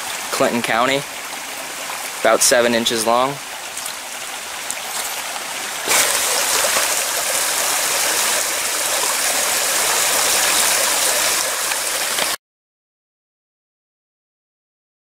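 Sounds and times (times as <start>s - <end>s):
creek running over rocks: 0.0s - 12.4s.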